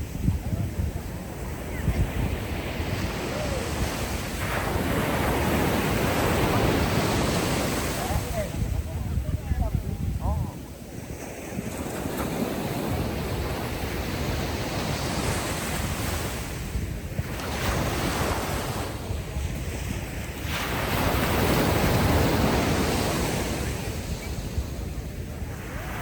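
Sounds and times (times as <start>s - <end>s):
ocean waves breaking: 0.0s - 26.0s
wind rumbling on microphone: 0.0s - 26.0s.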